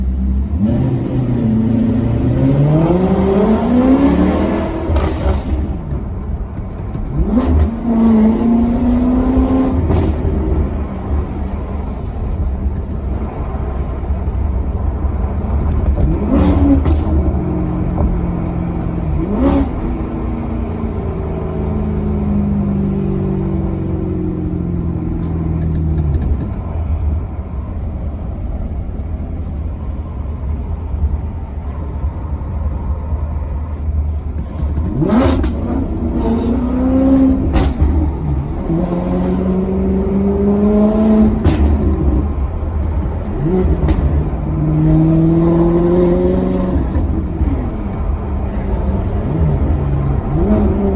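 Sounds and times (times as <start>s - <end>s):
car engine accelerating: 0.0s - 50.9s
engine throttle blips: 0.0s - 50.9s.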